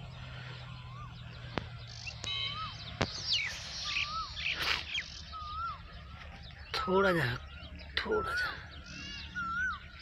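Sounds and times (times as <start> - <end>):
high bird chirps and twitters: 0.7 - 10.0
bird whistling rising and falling: 1.8 - 10.0.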